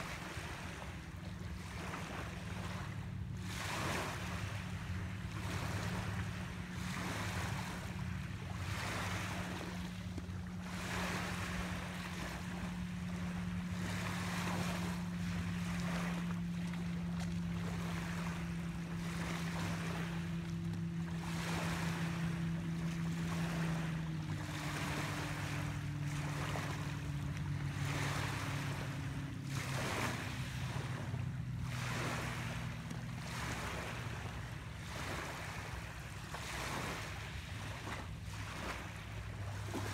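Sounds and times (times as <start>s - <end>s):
boat engine humming: 0.0s - 39.9s
small waves washing on shore: 0.0s - 39.9s.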